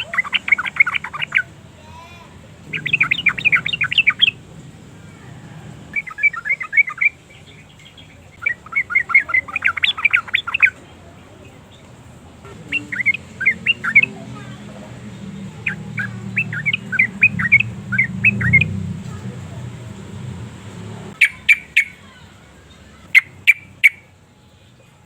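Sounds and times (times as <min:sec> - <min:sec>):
bird chattering song: 0:00.0 - 0:19.6, 0:21.1 - 0:24.2.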